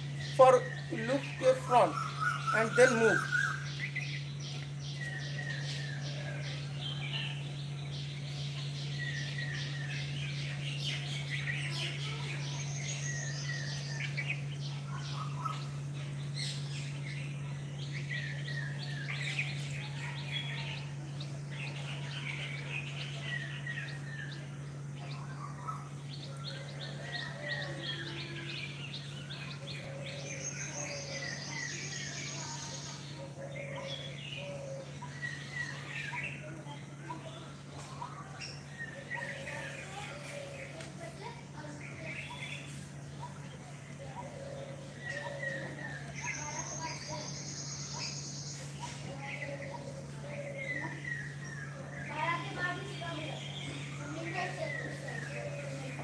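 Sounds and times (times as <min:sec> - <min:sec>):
low steady hum: 0:00.0 - 0:56.0
small birds chirping: 0:00.0 - 0:56.0.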